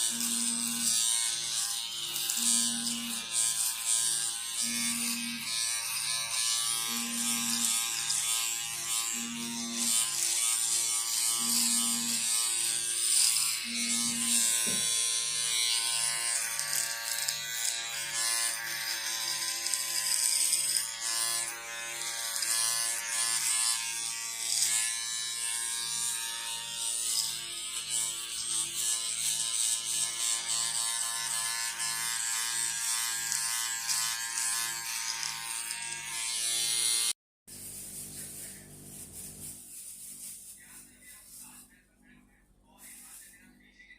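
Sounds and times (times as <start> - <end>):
electric shaver buzzing: 0.0 - 41.6.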